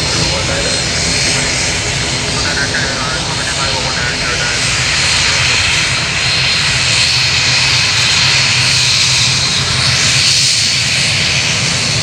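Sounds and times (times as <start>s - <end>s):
turboprop engines at takeoff power: 0.0s - 12.0s.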